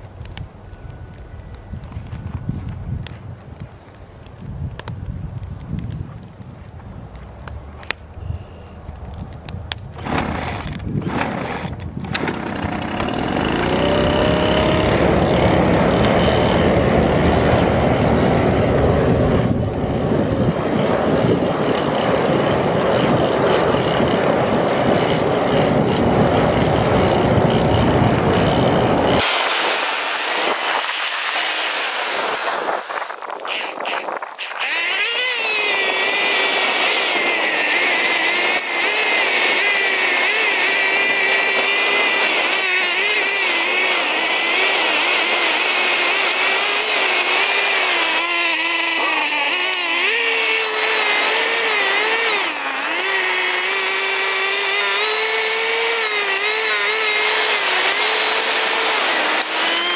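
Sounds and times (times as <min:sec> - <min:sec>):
high engine whine: 0:00.0 - 0:59.9
leaf blower engine running: 0:09.9 - 0:59.9.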